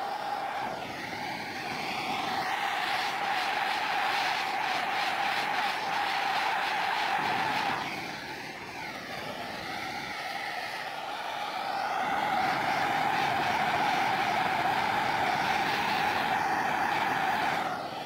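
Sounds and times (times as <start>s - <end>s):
torch flame burning: 0.0s - 18.0s.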